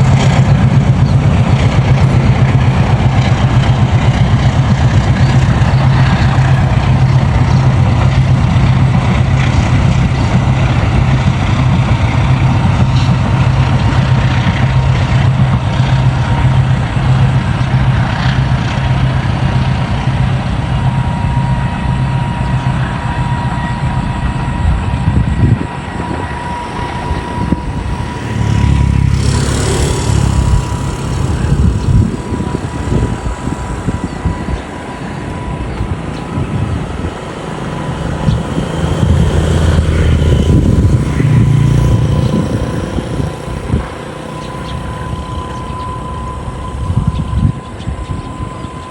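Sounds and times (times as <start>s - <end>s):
locomotive engine drone: 0.0s - 48.9s.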